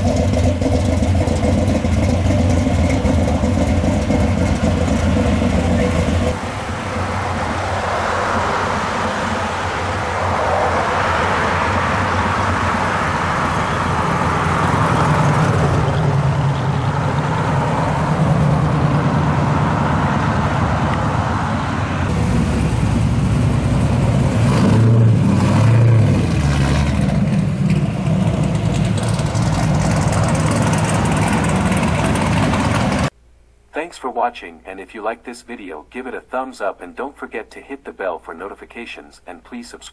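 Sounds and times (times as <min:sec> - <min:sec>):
loud car engines pulling away: 0:00.0 - 0:33.1.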